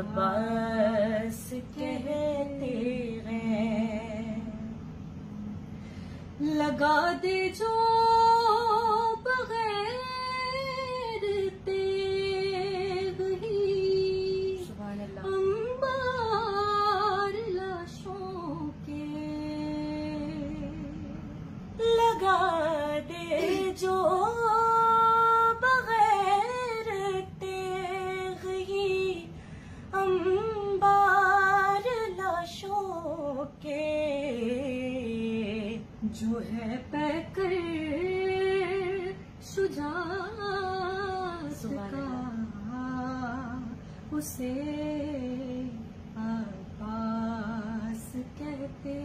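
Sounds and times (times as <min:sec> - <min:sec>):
women singing unaccompanied: 0:00.0 - 0:04.8, 0:06.4 - 0:49.0.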